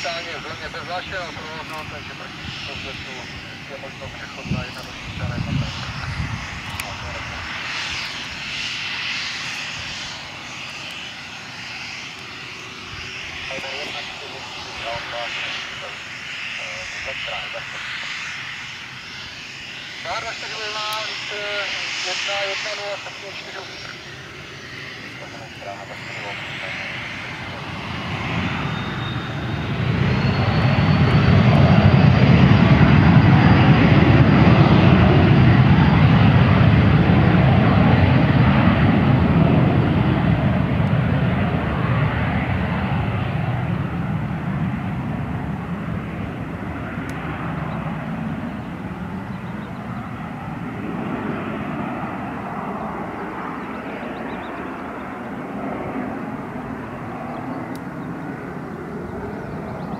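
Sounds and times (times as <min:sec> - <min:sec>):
jet engines at high power: 0:00.0 - 0:59.9.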